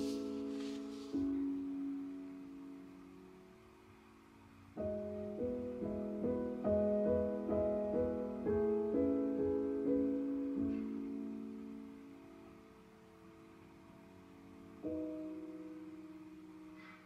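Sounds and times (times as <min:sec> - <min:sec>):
soft instrumental music: 0:00.0 - 0:03.7, 0:04.7 - 0:17.0.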